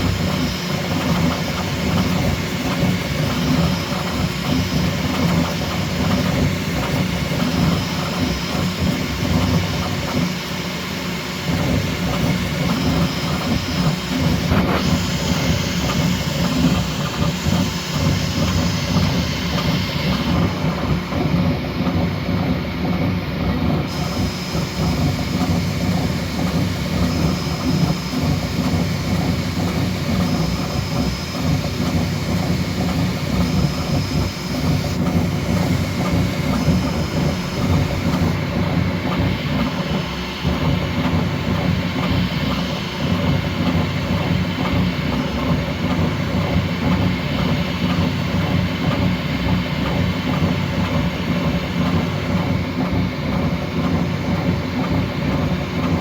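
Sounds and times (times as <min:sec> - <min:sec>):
printer motors whirring and rattling: 0:00.0 - 0:56.0.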